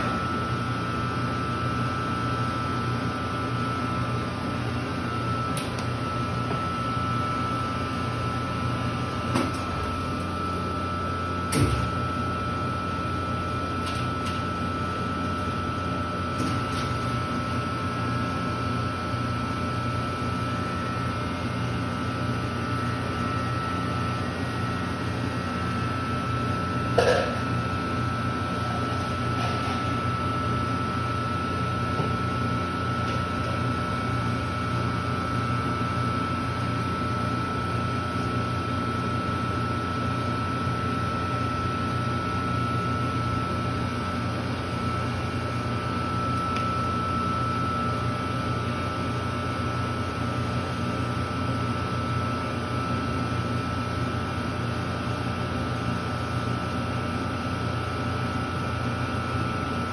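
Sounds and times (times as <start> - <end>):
soft-serve machine humming: 0.0 - 59.9.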